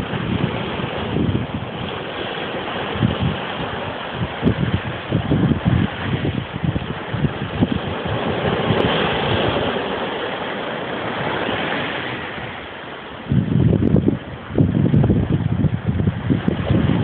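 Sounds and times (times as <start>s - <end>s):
surf breaking over rocks: 0.0s - 17.0s
wind rumbling on microphone: 0.0s - 17.0s.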